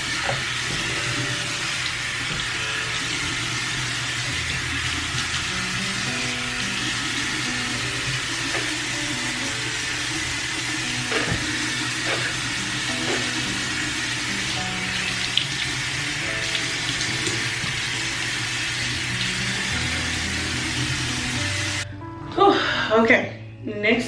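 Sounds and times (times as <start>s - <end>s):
tap water running into sink: 0.0s - 21.8s
soft background music: 0.0s - 24.0s.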